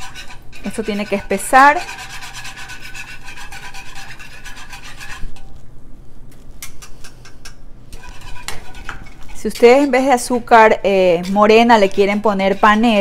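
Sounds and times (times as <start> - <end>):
utensil scraping in skillet: 0.0 - 5.7, 6.6 - 13.0.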